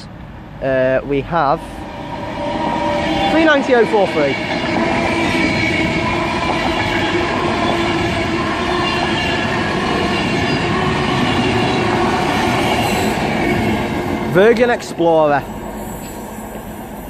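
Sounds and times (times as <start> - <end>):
train wheels rumbling on rail: 1.0 - 17.0.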